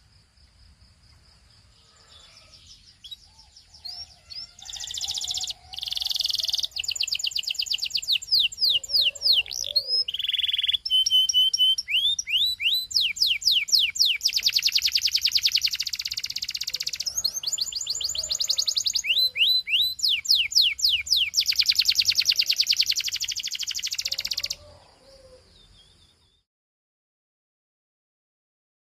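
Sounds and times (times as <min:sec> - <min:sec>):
canary singing trills: 0:01.8 - 0:26.5.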